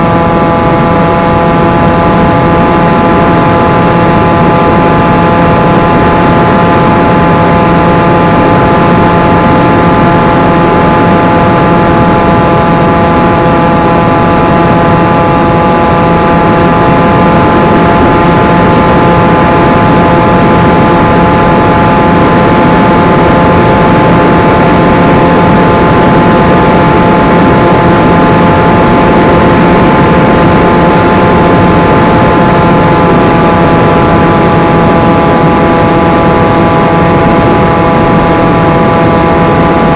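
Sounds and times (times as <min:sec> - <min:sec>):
electric motor and propeller whining: 0:00.0 - 0:39.9
wind rush: 0:00.0 - 0:39.9.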